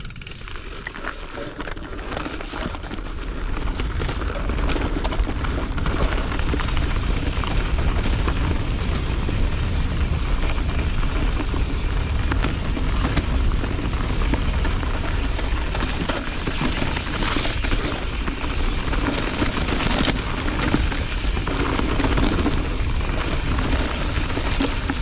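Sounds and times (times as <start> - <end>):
bike tyres rolling over dirt: 0.0 - 25.0
wind rumbling on microphone: 0.0 - 25.0.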